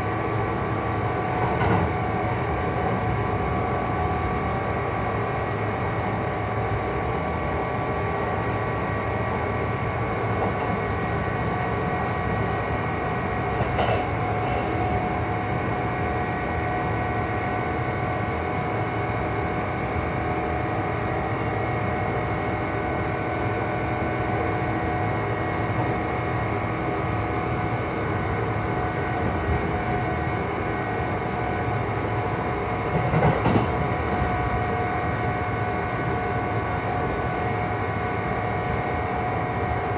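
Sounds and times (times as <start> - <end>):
train motor whine over rumble: 0.0 - 39.9.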